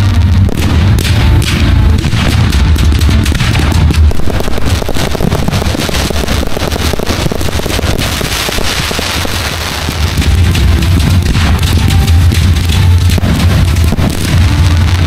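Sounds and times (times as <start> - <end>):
firework bangs and crackling: 0.0 - 15.0
low rumble: 0.0 - 15.0.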